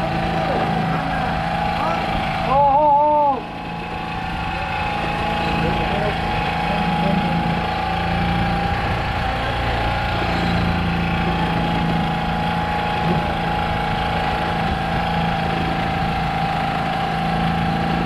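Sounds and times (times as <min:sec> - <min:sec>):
boat engine humming: 0:00.0 - 0:18.0
steady high whine: 0:00.0 - 0:18.0.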